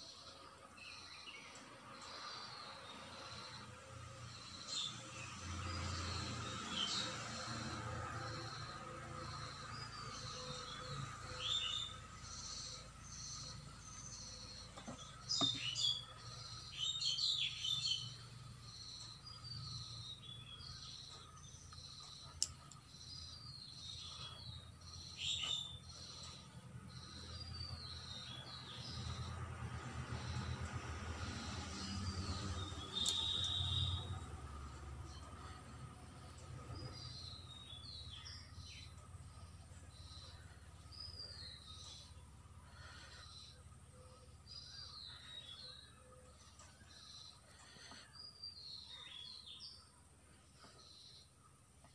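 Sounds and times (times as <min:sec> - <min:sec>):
low steady hum: 0:00.0 - 0:51.9
small birds chirping: 0:00.0 - 0:51.9.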